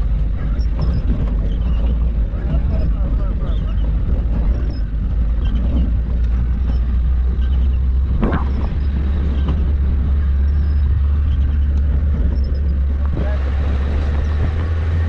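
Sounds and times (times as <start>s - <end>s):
light rattles: 0.0s - 15.0s
vehicle engine and road rumble: 0.0s - 15.0s
short squeak: 0.4s - 13.0s.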